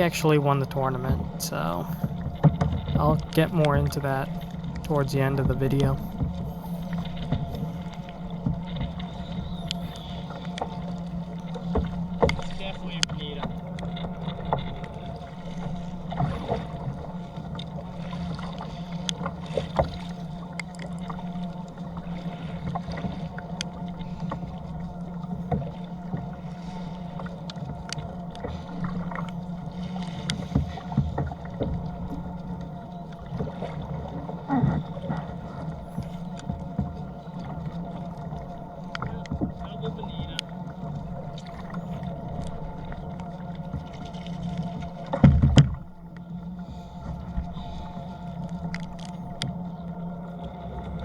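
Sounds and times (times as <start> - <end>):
steady low hum: 0.0 - 51.0
water splashing against kayak: 0.0 - 51.0.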